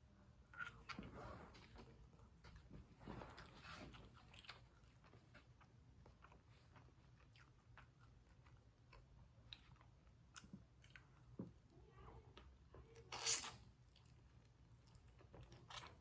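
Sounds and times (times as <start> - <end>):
faint chewing with mouth clicks: 0.4 - 16.0.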